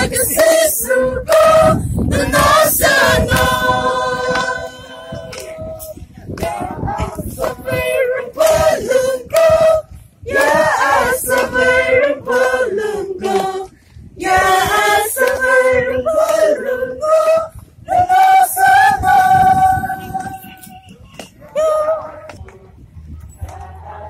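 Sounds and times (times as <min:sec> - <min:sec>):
crowd singing a chant: 0:00.0 - 0:24.0.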